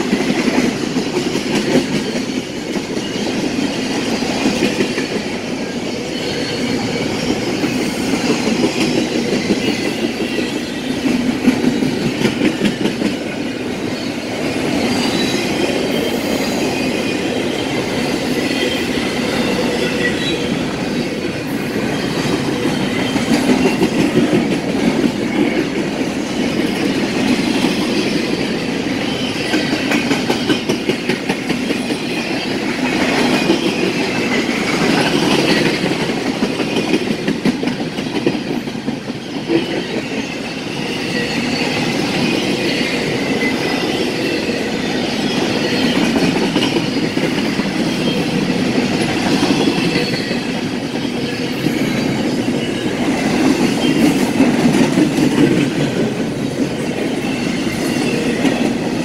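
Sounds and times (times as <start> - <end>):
freight train wheels clacking: 0.0 - 59.0.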